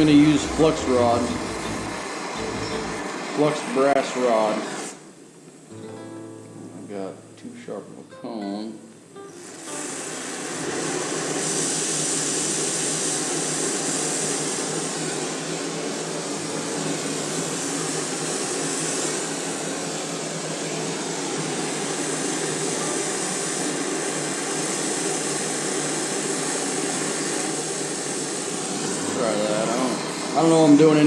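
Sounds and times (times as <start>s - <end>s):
gas torch hissing: 0.0s - 31.0s.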